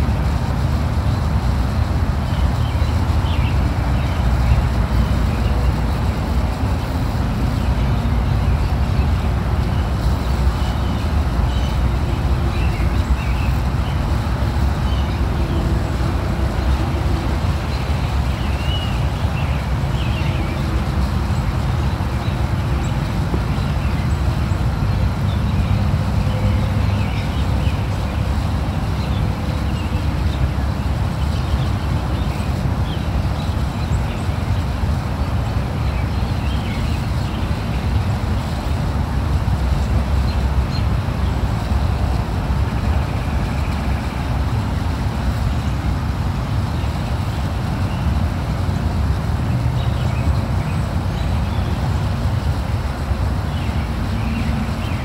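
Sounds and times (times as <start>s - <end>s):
low rumble of road traffic: 0.0s - 55.0s.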